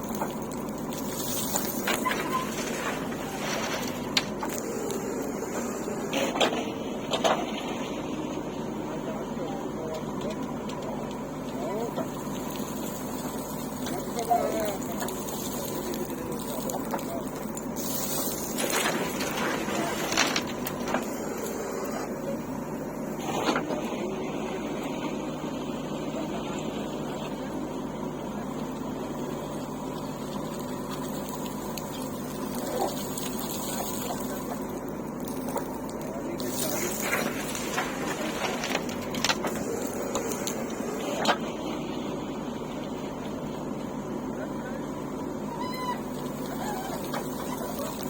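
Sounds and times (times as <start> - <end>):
diesel engine of heavy machinery: 0.0 - 48.0.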